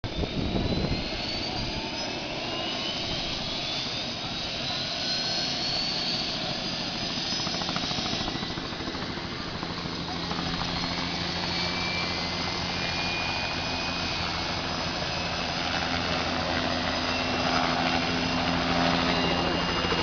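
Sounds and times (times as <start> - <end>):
helicopter engine and rotor: 0.0 - 20.0
faint high whine: 0.1 - 20.0.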